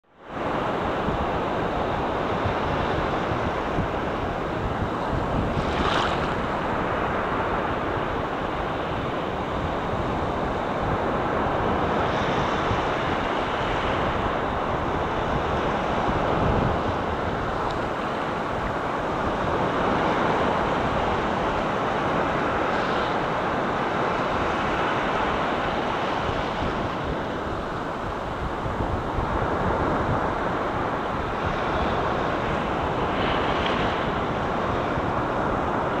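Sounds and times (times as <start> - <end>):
wind buffeting microphone: 0.2 - 36.0
waves breaking on beach: 0.3 - 36.0.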